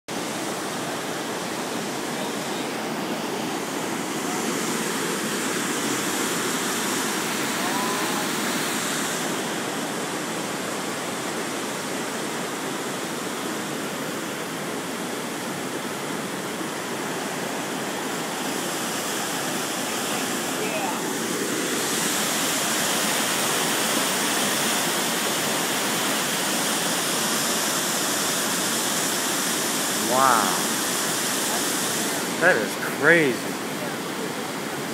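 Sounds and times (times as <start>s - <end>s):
rushing creek water roar: 0.1s - 34.9s.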